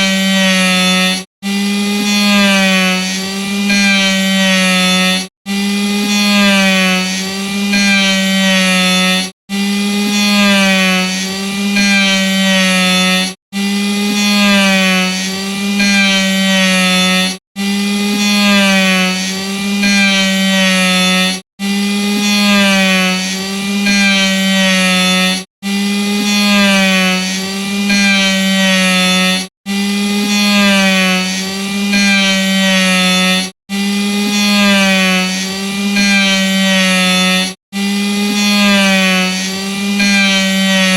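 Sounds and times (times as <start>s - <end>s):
electric saw motor whine: 0.0s - 40.9s.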